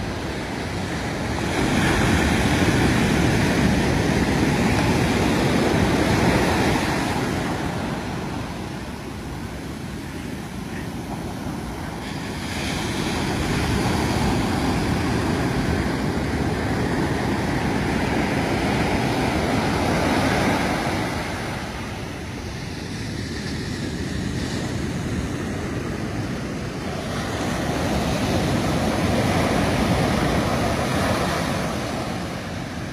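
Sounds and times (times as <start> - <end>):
ocean surf breaking on beach: 0.0 - 32.9.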